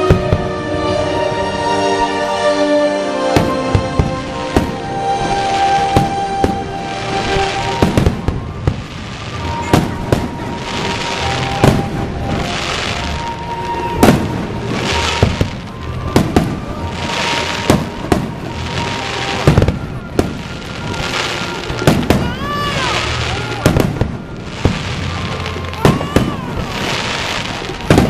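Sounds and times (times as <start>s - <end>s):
crackling hiss: 0.0s - 28.0s.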